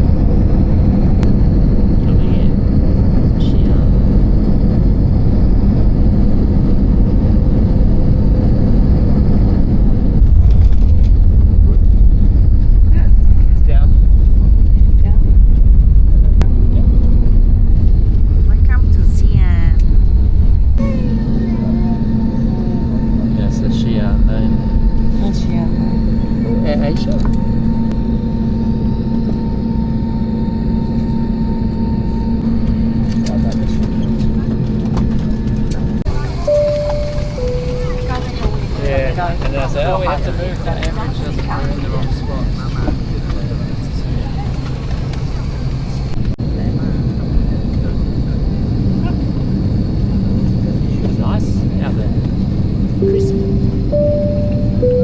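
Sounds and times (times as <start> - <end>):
jet airliner cabin rumble: 0.0 - 55.0.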